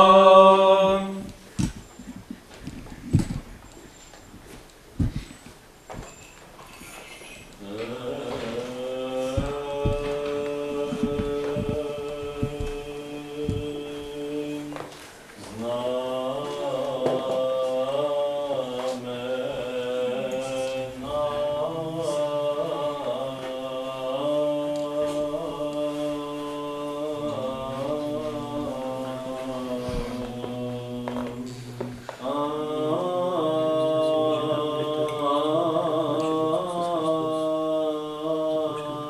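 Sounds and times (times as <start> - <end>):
slow liturgical chant: 0.0 - 39.0.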